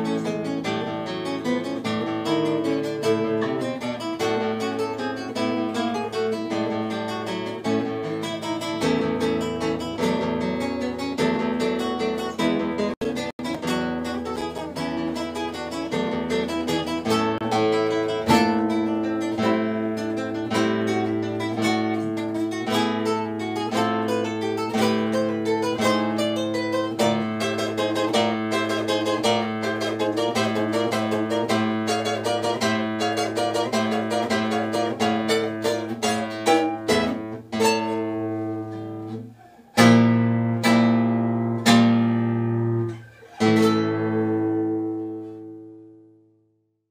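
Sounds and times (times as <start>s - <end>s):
acoustic guitar music: 0.0s - 46.5s.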